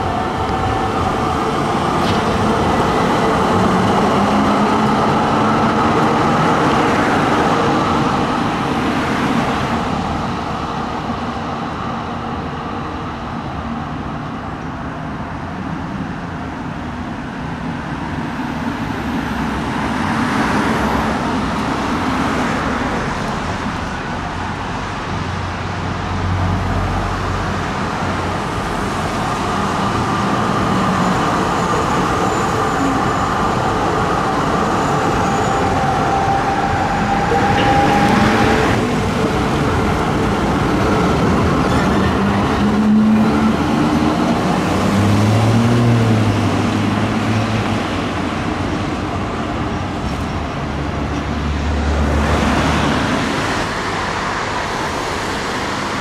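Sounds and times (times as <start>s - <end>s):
road traffic: 0.0s - 56.0s
tram rolling rumble: 0.0s - 56.0s.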